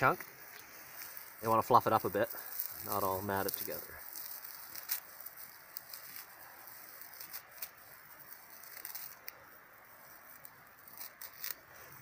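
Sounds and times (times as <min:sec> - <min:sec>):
dry lichen rustling and crackling: 0:00.0 - 0:12.0.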